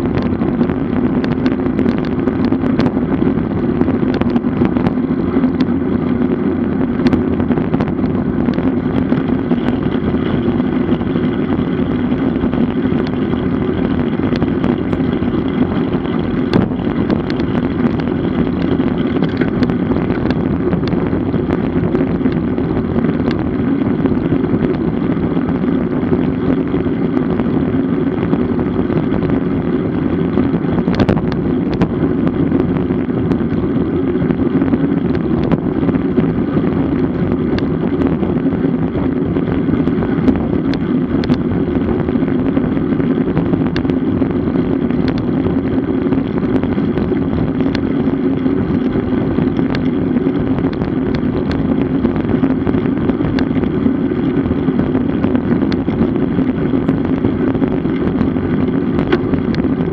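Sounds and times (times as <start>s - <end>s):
bicycle road noise: 0.0s - 59.9s
rushing wind on microphone: 0.0s - 59.9s.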